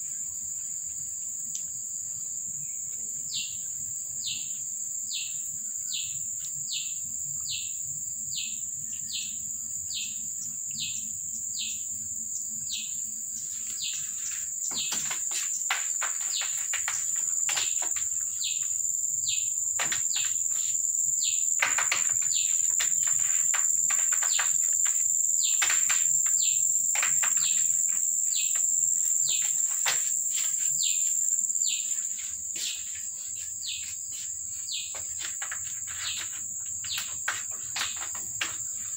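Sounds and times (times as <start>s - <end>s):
high-pitched insect trilling: 0.0s - 38.9s.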